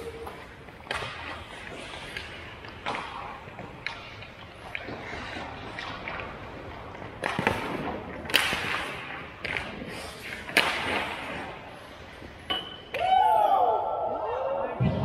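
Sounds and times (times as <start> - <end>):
skate blades scraping ice: 0.0 - 12.9
hockey stick and puck cracks: 0.0 - 13.1.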